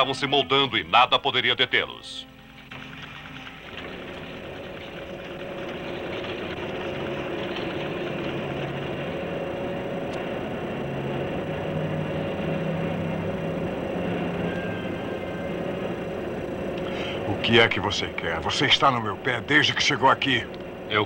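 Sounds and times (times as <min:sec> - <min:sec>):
workshop machinery clatter and hum: 0:02.2 - 0:21.0.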